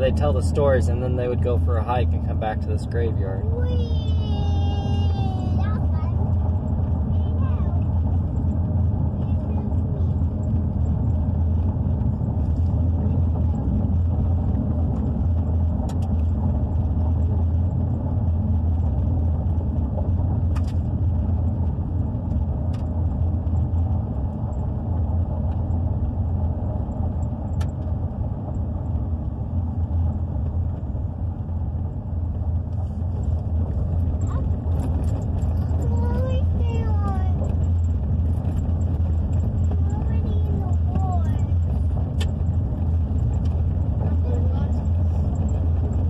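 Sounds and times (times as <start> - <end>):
vehicle engine and tyre rumble: 0.0 - 46.0.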